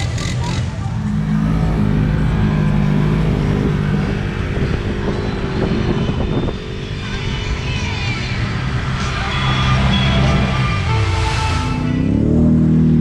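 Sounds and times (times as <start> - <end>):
utv engine running: 0.0 - 13.0.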